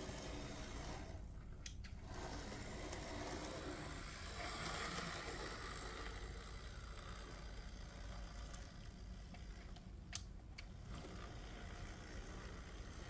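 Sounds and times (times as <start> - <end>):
model train motor whirring: 0.0 - 13.0.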